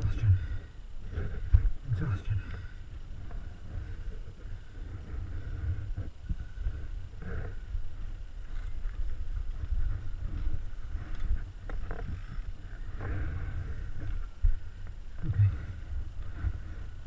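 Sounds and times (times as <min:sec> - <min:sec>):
rumble and rubbing on microphone: 0:00.0 - 0:17.0.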